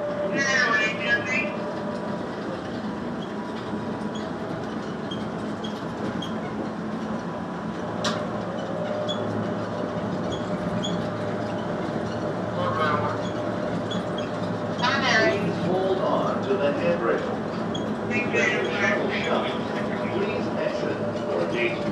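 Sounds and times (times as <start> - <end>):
train running gear rumble: 0.0 - 21.9.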